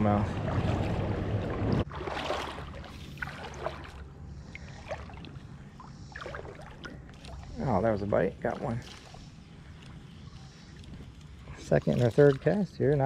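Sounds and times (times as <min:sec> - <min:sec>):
small water splashes: 0:00.0 - 0:13.0
water sloshing around legs: 0:00.0 - 0:13.0.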